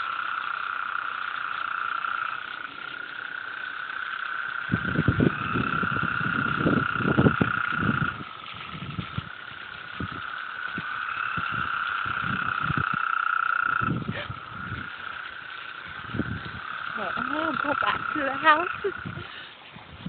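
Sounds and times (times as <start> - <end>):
frogs trilling chorus: 0.0 - 19.6.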